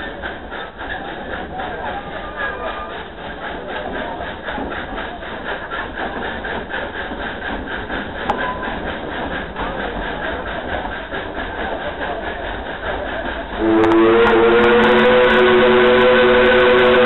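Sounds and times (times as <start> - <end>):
rail cars rumbling on track: 0.0 - 17.0
steam locomotive chuffing: 0.0 - 17.0.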